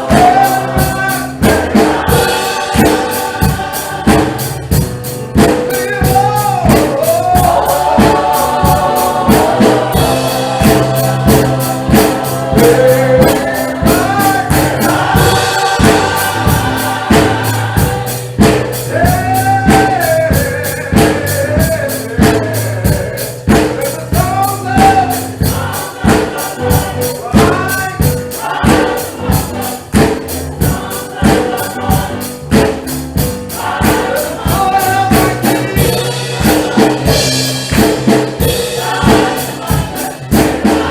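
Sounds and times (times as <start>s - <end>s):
choir singing: 0.0s - 4.9s, 5.7s - 40.9s
bass: 0.0s - 40.9s
fast percussion beat: 0.0s - 40.9s.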